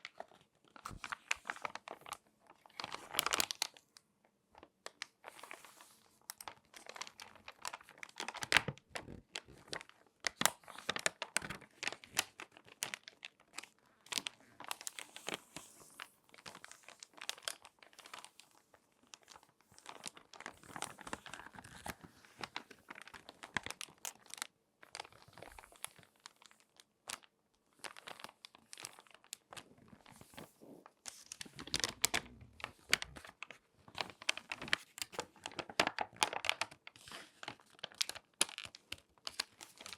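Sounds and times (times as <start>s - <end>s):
magazine pages crackling and rustling: 0.0s - 3.8s, 4.6s - 39.9s.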